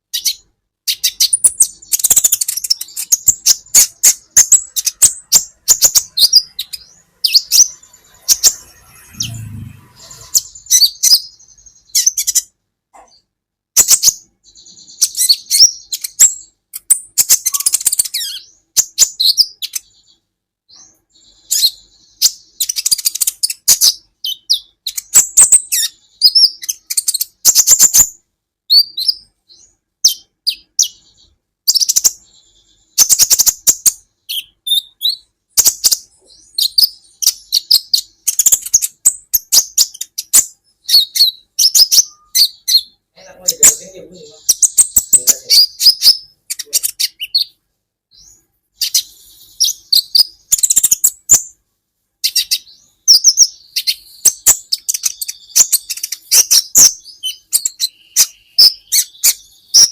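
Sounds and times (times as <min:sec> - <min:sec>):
sunbird chirping and trilling: 0:00.0 - 0:59.9.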